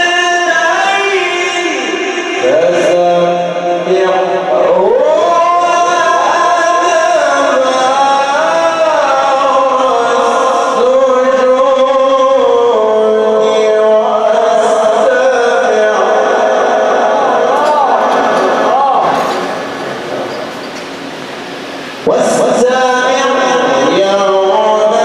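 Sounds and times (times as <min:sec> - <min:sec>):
man reciting melodic chant: 0:00.0 - 0:19.3, 0:22.0 - 0:25.0.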